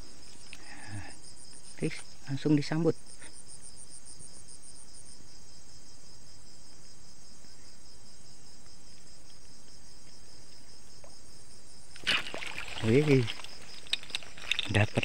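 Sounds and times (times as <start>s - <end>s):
fast-pulsing insect call: 0.0s - 15.0s
night insects chorus: 0.0s - 15.0s.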